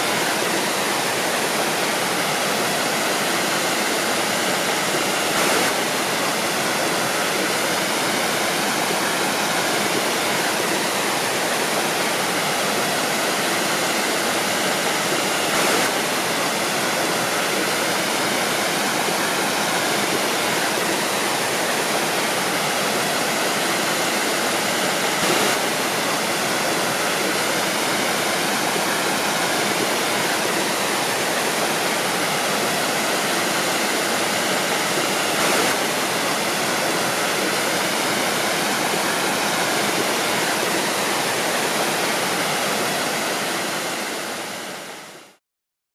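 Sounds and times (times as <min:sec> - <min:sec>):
waterfall rushing: 0:00.0 - 0:45.4.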